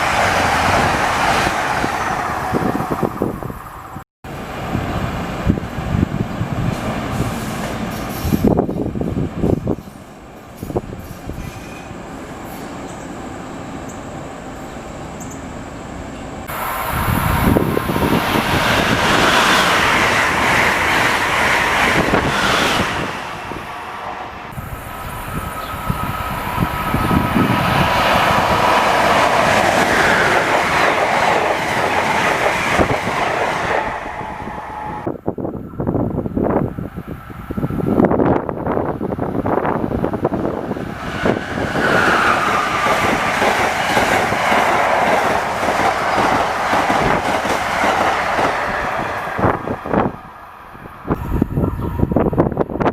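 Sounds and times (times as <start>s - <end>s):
passenger train passing: 0.0s - 52.9s.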